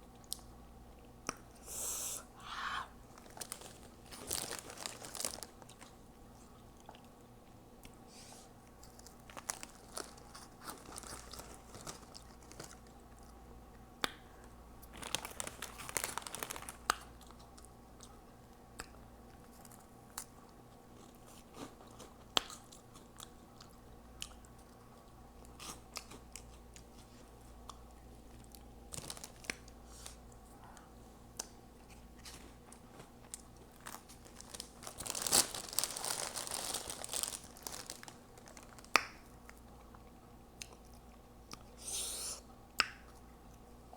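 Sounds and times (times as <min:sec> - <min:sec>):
chewing crunchy snacks: 0:03.1 - 0:08.0, 0:08.6 - 0:30.5, 0:31.3 - 0:43.8.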